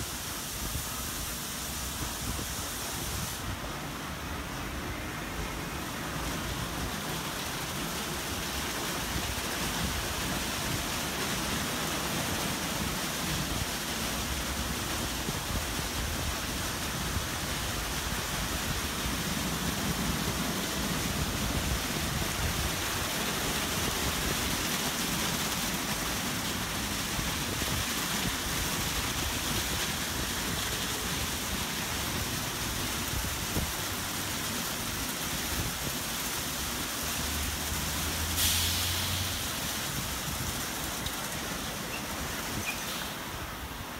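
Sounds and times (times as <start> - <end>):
water spray rushing: 0.0 - 43.9.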